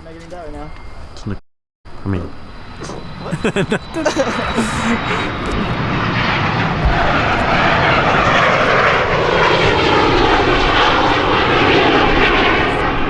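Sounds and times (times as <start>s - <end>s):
airplane engine passing: 2.5s - 13.0s.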